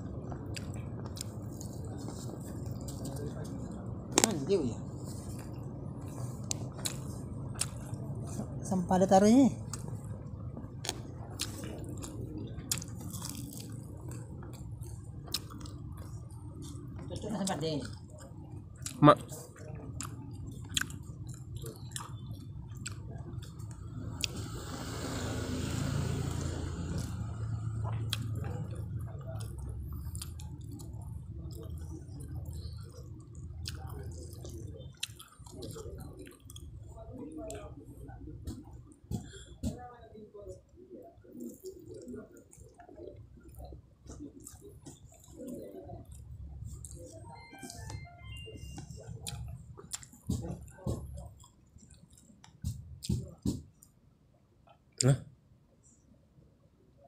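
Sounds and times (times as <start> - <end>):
steady low hum: 0.0 - 53.6
wet chewing mouth sounds: 0.1 - 8.6, 9.6 - 25.0, 26.4 - 37.6, 41.2 - 54.0.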